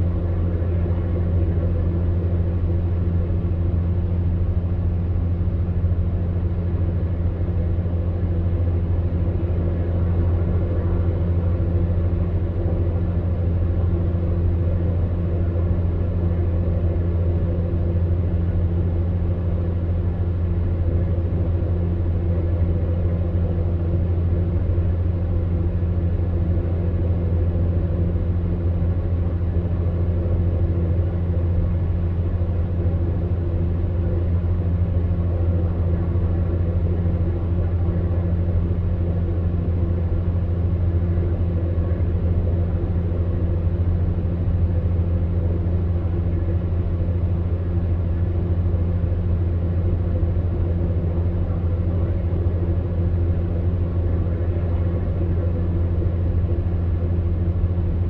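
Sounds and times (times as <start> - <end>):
fan heater humming: 0.0 - 58.0.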